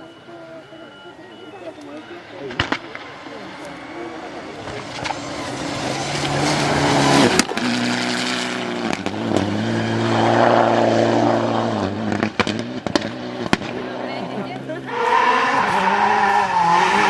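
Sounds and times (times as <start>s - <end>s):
rally car engine revving: 2.3s - 17.0s.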